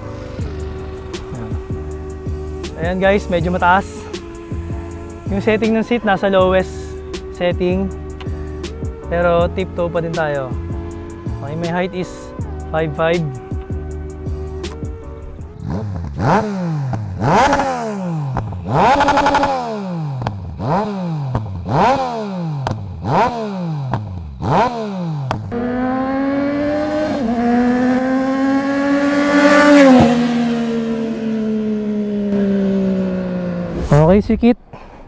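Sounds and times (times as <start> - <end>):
motorcycle engine revving: 0.0 - 34.1.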